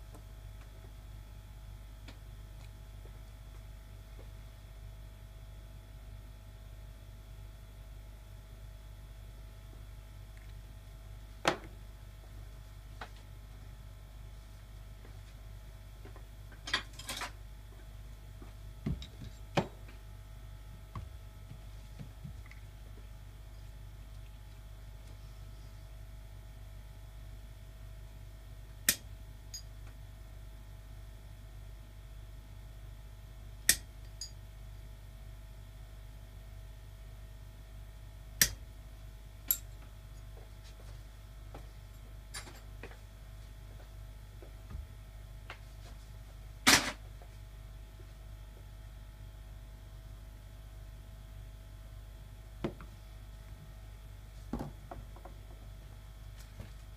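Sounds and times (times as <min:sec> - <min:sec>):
low steady hum: 0:00.0 - 0:56.9.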